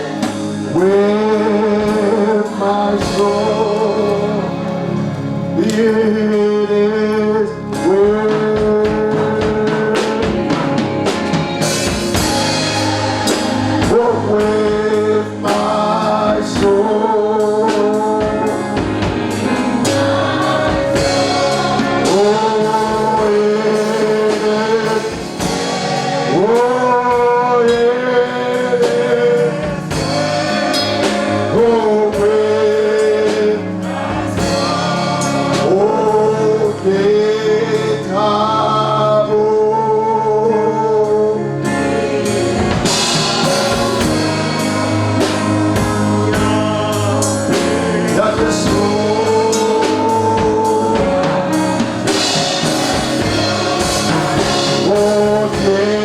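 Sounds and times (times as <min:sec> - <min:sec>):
band with drum kit: 0:00.0 - 0:39.1, 0:41.0 - 0:56.0
congregation singing a hymn: 0:00.0 - 0:56.0.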